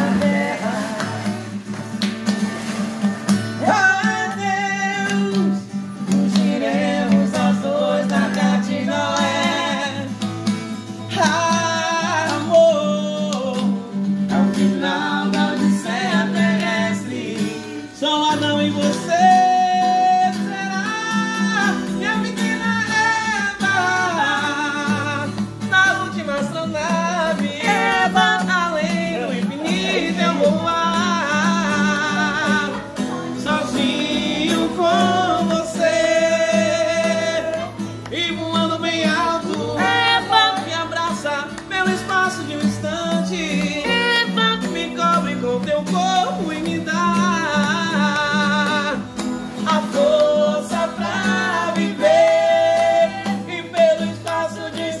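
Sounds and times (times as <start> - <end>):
person singing: 0.0 - 1.7, 3.6 - 10.2, 11.1 - 55.0
acoustic guitar playing: 0.0 - 55.0.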